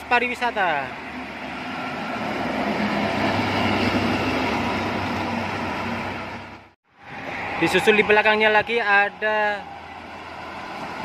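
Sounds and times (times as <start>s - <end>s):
vehicles passing at speed: 0.0s - 11.0s.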